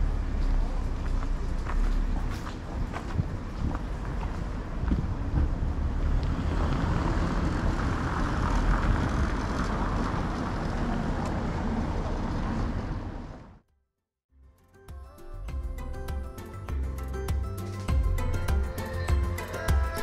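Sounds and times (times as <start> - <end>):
steady traffic: 0.0 - 13.7, 15.6 - 20.0
street noise with low rumble: 0.0 - 13.7, 15.2 - 20.0.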